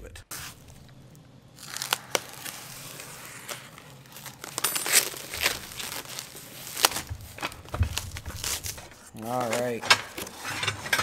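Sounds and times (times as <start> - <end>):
plastic wrap crinkling and tearing: 0.3 - 10.4.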